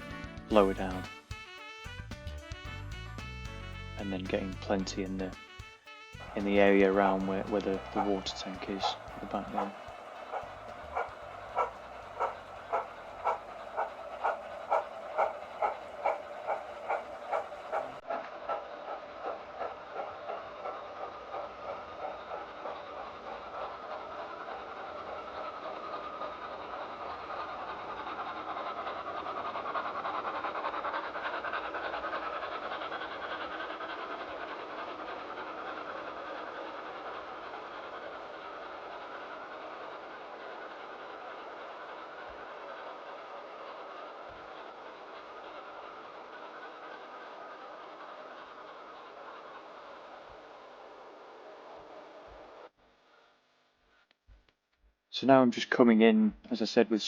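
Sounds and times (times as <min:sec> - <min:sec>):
steam locomotive exhaust chuffing: 0:00.0 - 0:52.8.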